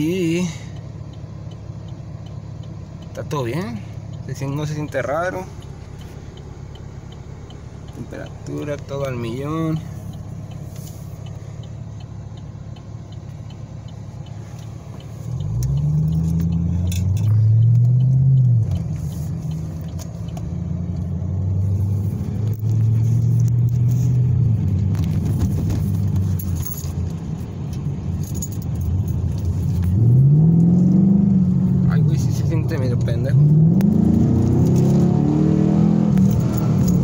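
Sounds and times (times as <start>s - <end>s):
car engine revving in cabin: 0.0s - 37.0s.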